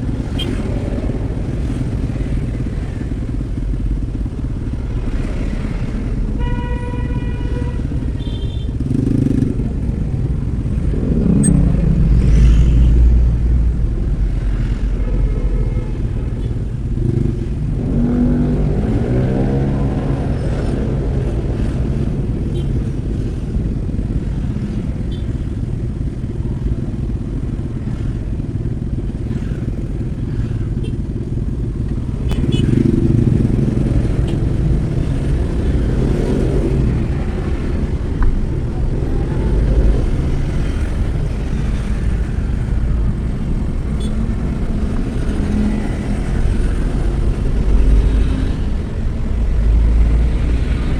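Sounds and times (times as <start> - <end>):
vehicle engine and traffic: 0.0 - 50.9.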